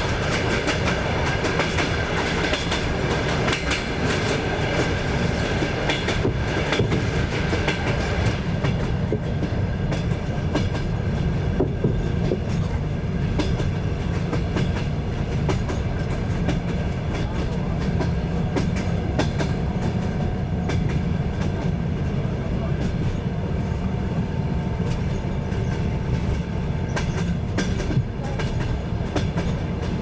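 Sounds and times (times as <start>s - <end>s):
train wheels clattering over rails: 0.0s - 30.0s.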